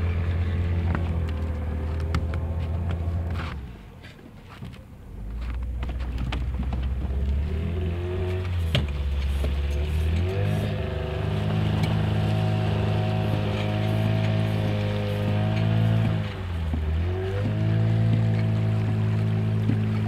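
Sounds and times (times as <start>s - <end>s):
outboard motor running: 0.0s - 4.3s, 5.1s - 20.0s.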